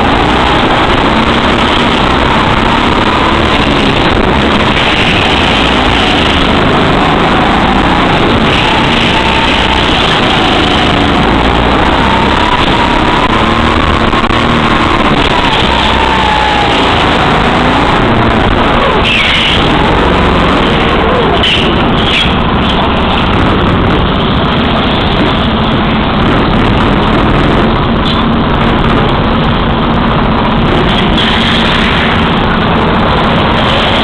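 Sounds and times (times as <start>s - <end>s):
go-kart engine running hard: 0.0s - 34.0s.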